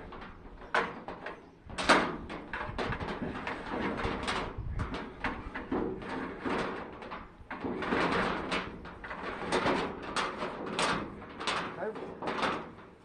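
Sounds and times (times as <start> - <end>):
pipe and cable scraping and rattling: 0.0 - 13.0.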